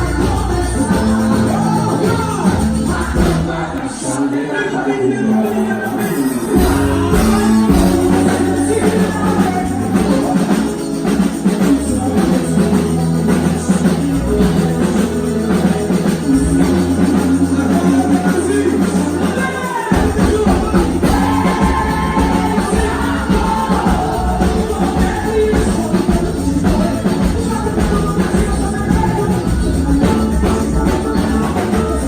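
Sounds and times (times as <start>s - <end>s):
performance music with drums and bass: 0.0s - 4.1s, 5.6s - 32.0s
person singing: 0.0s - 32.0s.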